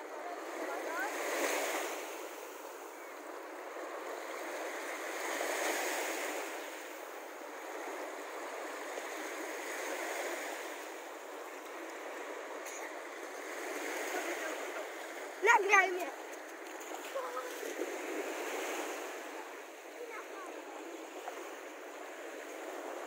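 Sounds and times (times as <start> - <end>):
small waves washing onto sand: 0.0 - 23.0.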